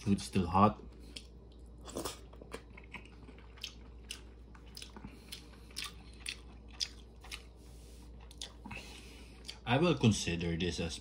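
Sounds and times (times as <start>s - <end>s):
person chewing and eating soup: 0.8s - 10.2s.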